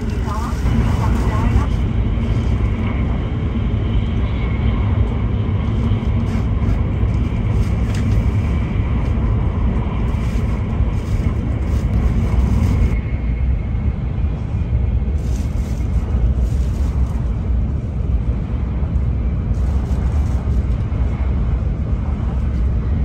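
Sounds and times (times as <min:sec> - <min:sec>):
train cabin low rumble: 0:00.0 - 0:23.0.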